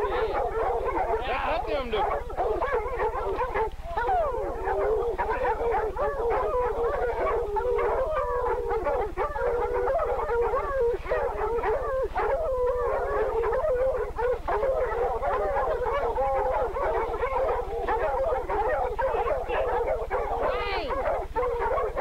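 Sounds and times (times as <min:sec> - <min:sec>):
dogs baying and howling: 0:00.0 - 0:22.0.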